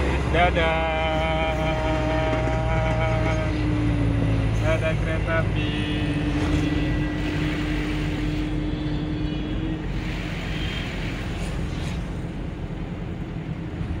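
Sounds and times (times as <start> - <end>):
engine and road noise in cab: 0.0 - 14.0.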